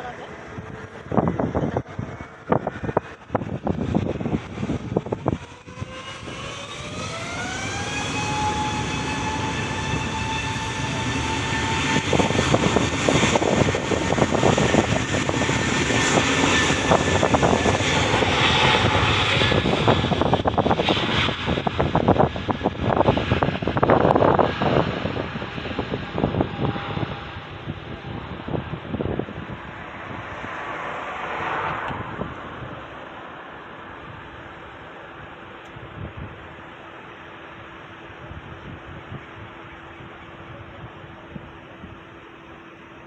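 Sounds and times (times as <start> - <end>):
jet engines spooling up: 0.1 - 43.0.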